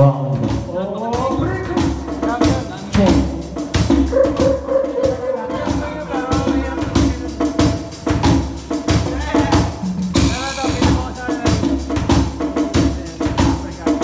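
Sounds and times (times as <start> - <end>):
bass line: 0.0 - 14.0
drum kit beats: 0.0 - 14.0
held melody line: 0.8 - 14.0.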